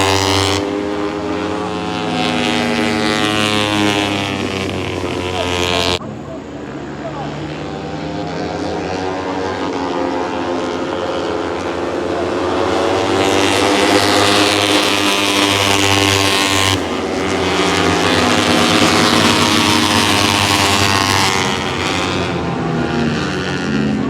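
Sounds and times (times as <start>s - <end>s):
racing motorcycles passing at high revs: 0.0s - 24.0s.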